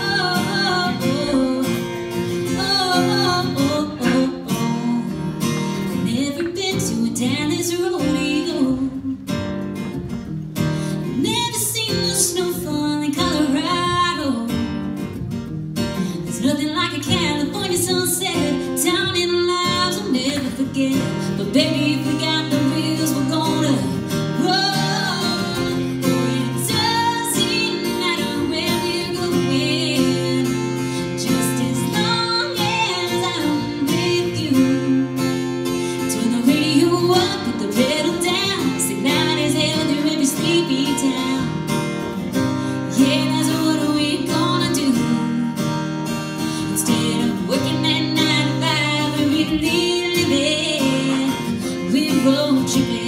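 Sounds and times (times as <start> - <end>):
woman singing: 0.0 - 9.9, 10.8 - 15.3, 16.0 - 53.0
acoustic guitar: 0.0 - 53.0.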